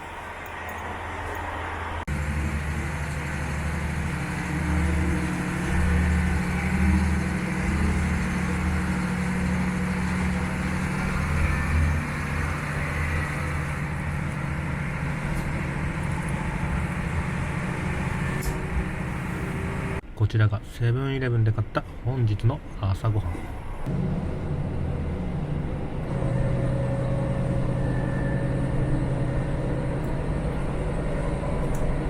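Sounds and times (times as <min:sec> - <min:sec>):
train running with rumble: 0:00.0 - 0:20.2, 0:21.2 - 0:32.0.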